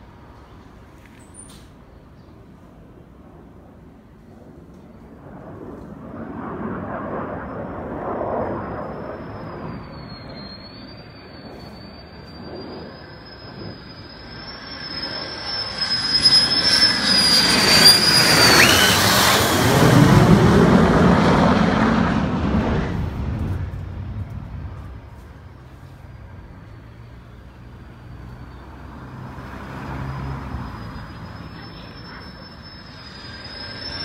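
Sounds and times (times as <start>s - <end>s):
jet roar: 0.0s - 34.0s
jet turbine whine: 0.0s - 34.0s.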